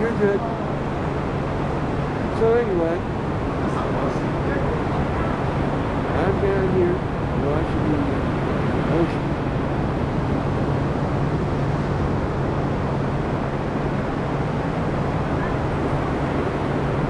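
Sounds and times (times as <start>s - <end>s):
constant low hum: 0.0s - 17.0s
ocean surf: 0.0s - 17.0s
wind on microphone: 0.0s - 17.0s.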